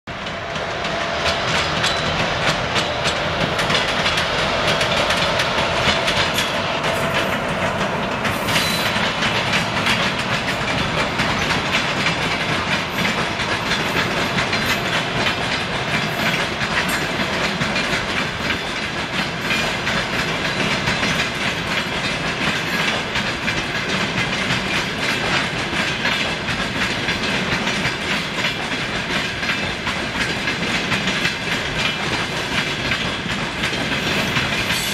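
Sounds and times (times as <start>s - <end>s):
train wheels clattering over rail joints: 0.1s - 34.9s.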